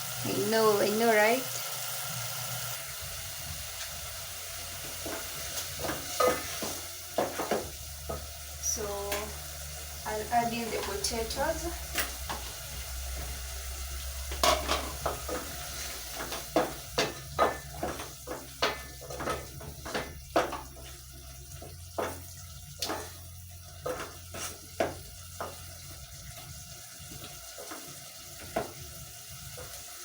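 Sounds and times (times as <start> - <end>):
faint sizzle: 0.0 - 30.0.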